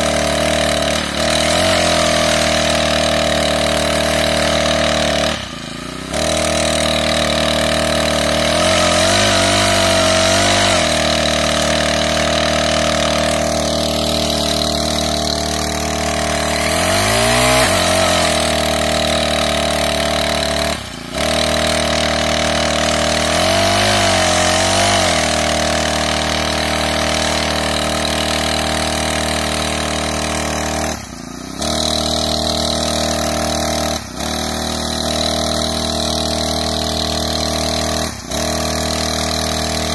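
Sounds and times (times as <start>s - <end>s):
brush-cutter engine running: 0.0s - 39.9s.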